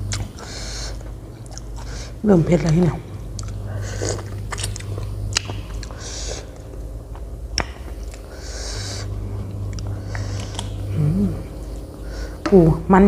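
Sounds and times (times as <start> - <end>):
wet chewing and mouth sounds: 0.0 - 10.9.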